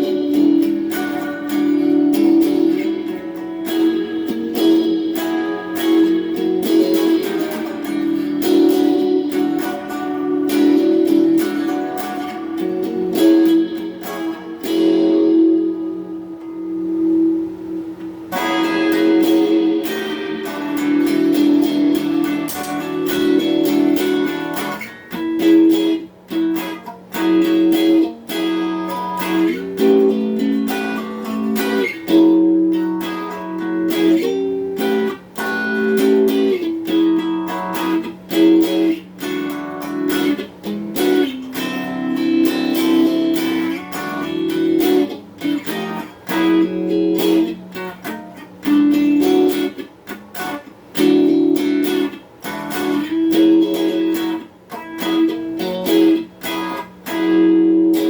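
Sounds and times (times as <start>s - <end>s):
electric guitar picked notes and chords: 0.0s - 58.0s.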